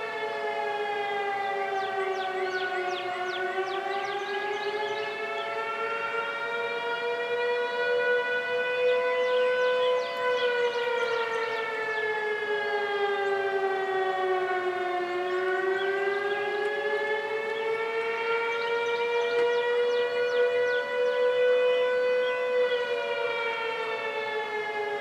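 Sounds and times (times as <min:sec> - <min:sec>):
siren wailing: 0:00.0 - 0:25.0
steady siren tone: 0:00.0 - 0:25.0.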